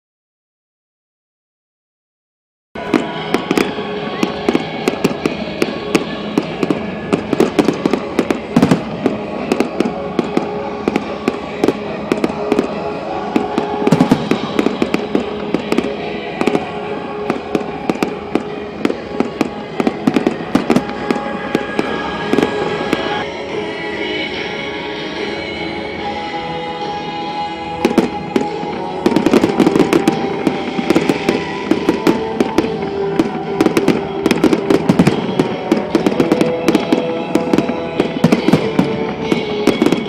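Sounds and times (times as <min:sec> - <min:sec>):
loud fireworks bangs: 0:02.8 - 0:23.4, 0:26.8 - 0:40.0
fireworks crackling: 0:02.8 - 0:40.0.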